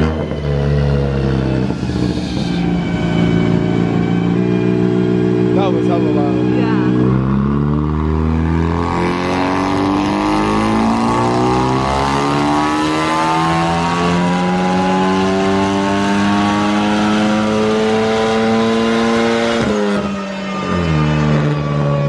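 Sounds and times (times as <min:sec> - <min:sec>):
turbo engine revving at full throttle: 0:00.0 - 0:22.0.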